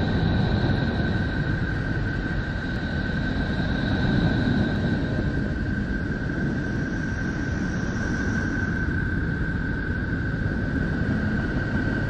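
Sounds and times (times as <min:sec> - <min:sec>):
dense rushing rumble: 0:00.0 - 0:12.0.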